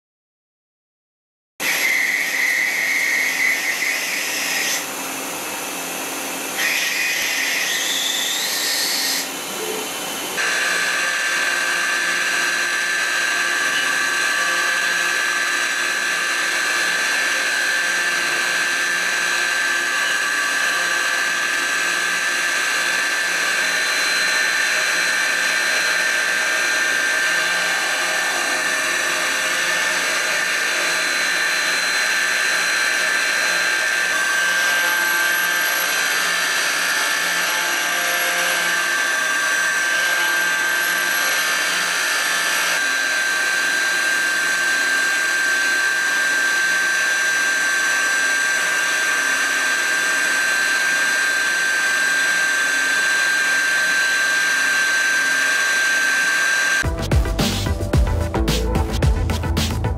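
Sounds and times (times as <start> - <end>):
high machining whine: 1.6 - 56.8.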